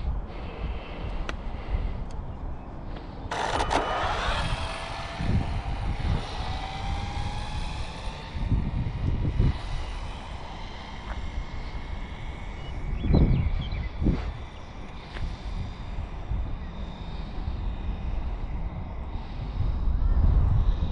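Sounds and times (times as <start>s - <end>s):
wind buffeting microphone: 0.0s - 20.9s
electric motor whine of rc car: 3.3s - 20.9s.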